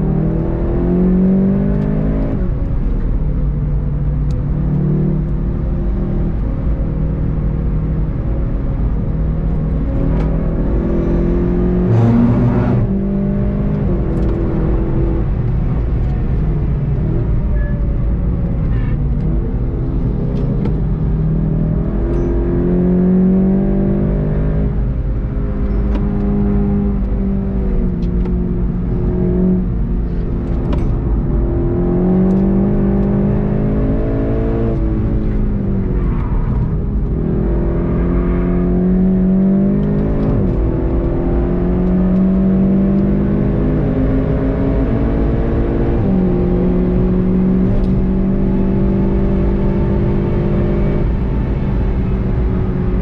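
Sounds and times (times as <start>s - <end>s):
car engine revving through gears: 0.0s - 53.0s
road noise: 0.0s - 53.0s.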